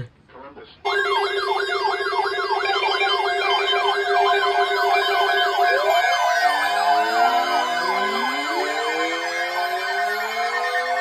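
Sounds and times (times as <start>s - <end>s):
beeping tones: 0.9s - 11.0s
rising siren-like wails: 0.9s - 11.0s
warbling siren tones: 0.9s - 11.0s.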